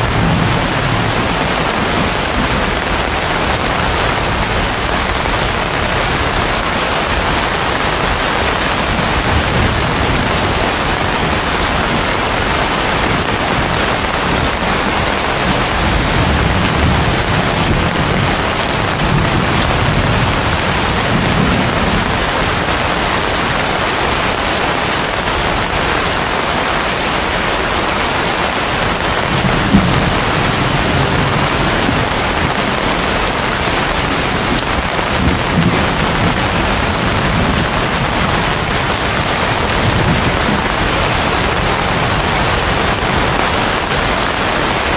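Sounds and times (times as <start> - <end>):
heavy rain on leaves: 0.0 - 44.9.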